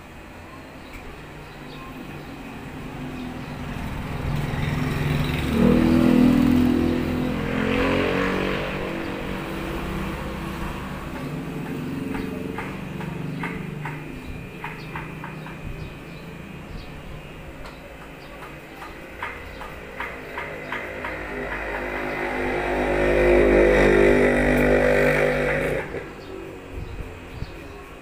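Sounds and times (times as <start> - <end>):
vehicle engine passing by: 2.4 - 16.9, 19.0 - 28.0.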